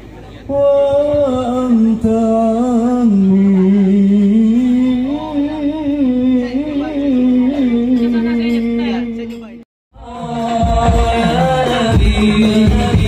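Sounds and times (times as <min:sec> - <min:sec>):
man chanting through a microphone: 0:00.5 - 0:13.0.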